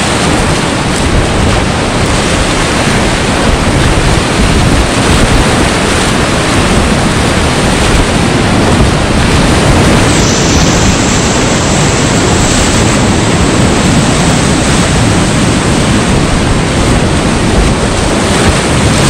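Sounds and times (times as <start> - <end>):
whitewater rapid rushing: 0.0 - 19.0.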